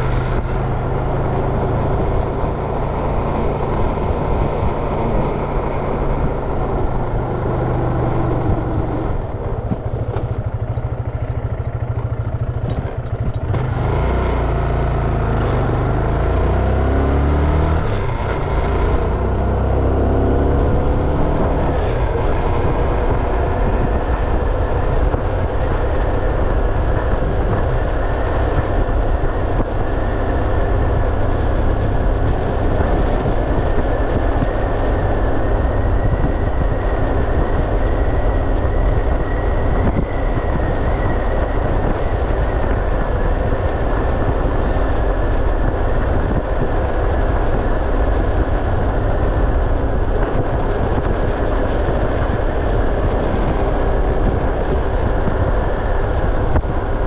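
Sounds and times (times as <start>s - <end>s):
motorcycle engine hum: 0.0s - 57.0s
wind and road noise: 0.0s - 57.0s.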